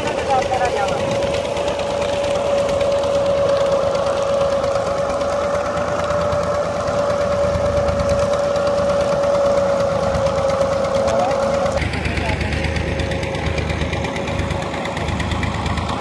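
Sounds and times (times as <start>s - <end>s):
steady machine whine: 0.0s - 16.0s
tractor engine rattling: 0.0s - 16.0s.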